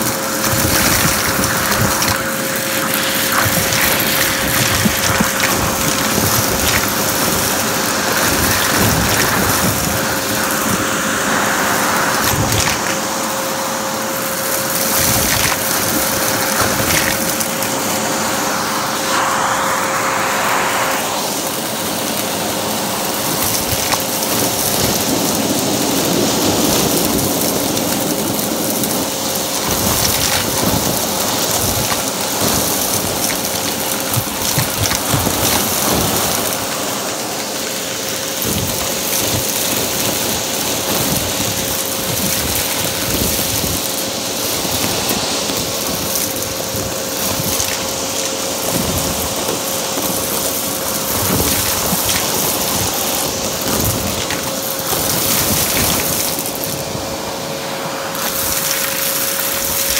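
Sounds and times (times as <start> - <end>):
debris rattling up hose: 0.0 - 19.2, 21.2 - 59.9
vacuum cleaner whining: 0.0 - 59.9.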